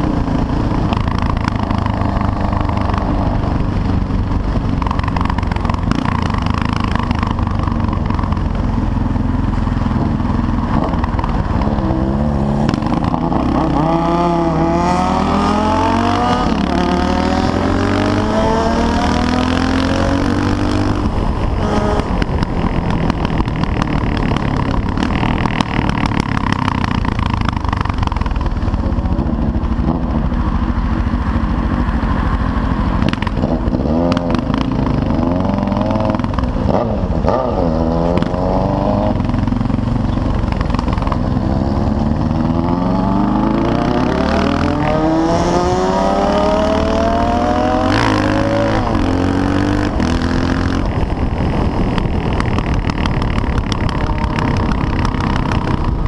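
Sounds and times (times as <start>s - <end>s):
motorcycle engine through gears: 0.0s - 56.0s.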